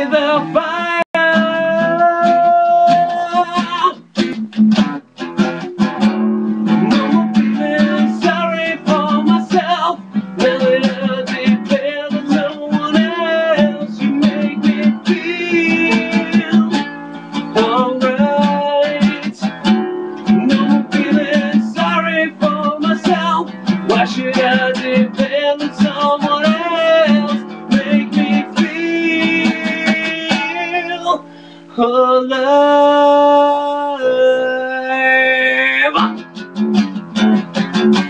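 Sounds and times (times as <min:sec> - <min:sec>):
man singing: 0:00.0 - 0:04.4, 0:06.7 - 0:36.4
acoustic guitars playing: 0:00.0 - 0:38.0.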